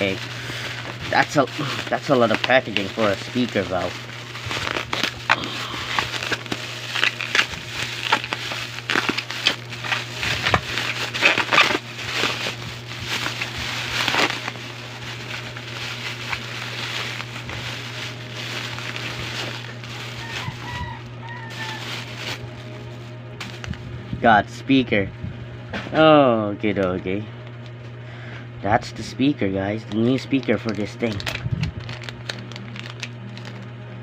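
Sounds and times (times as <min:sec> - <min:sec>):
packaging crinkling and tearing: 0:00.0 - 0:23.8, 0:29.7 - 0:34.0
steady low hum: 0:00.0 - 0:34.0.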